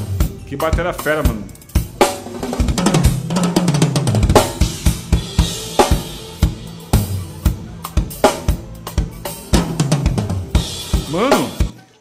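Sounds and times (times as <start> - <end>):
snare and tom strokes: 0.7 - 11.7
bass drum kicks: 1.9 - 11.7.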